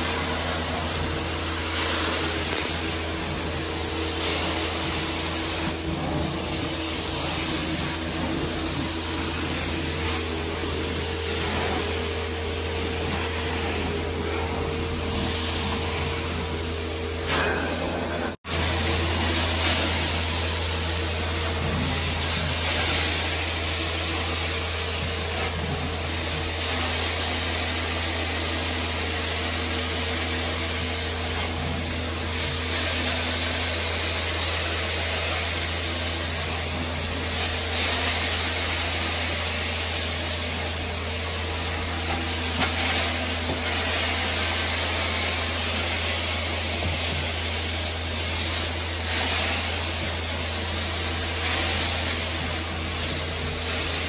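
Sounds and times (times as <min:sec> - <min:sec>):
suction and spray hiss: 0:00.0 - 0:54.0.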